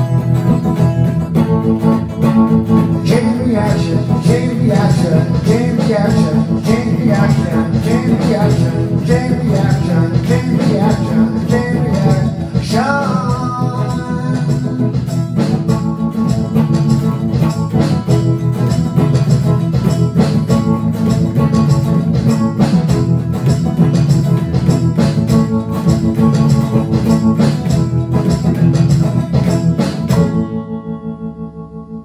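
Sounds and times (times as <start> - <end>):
instrumental rock music: 0.0 - 32.0.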